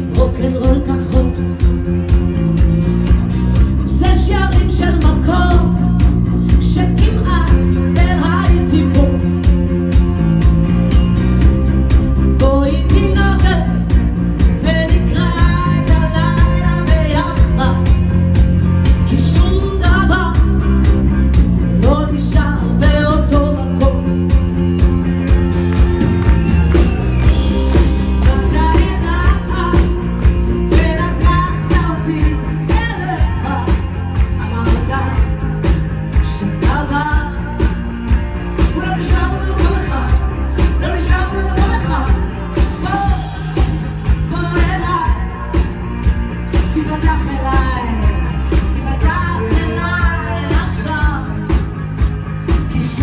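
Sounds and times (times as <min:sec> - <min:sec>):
woman singing: 0:00.0 - 0:01.7, 0:03.6 - 0:09.5, 0:12.2 - 0:18.1, 0:19.0 - 0:20.9, 0:21.7 - 0:24.3, 0:27.7 - 0:51.8, 0:52.4 - 0:53.0
live rock band playing: 0:00.0 - 0:53.0.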